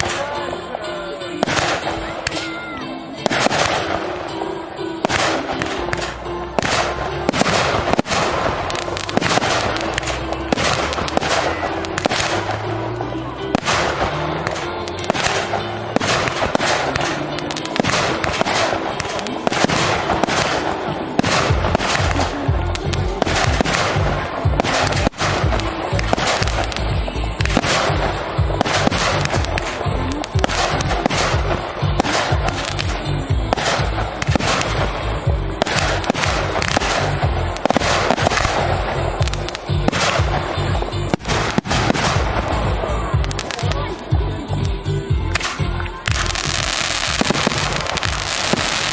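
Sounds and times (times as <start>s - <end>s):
fireworks launching and bursting: 0.0s - 48.9s.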